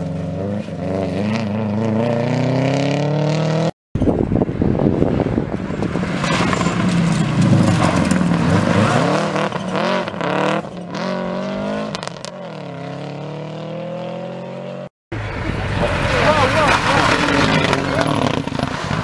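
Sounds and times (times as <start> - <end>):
rally car engine at full throttle: 0.0 - 19.0.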